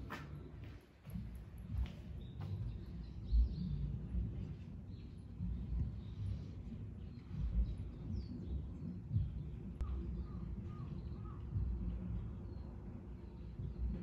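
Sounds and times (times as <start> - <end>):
low outdoor rumble: 0.0 - 14.0
small birds chirping: 1.1 - 14.0.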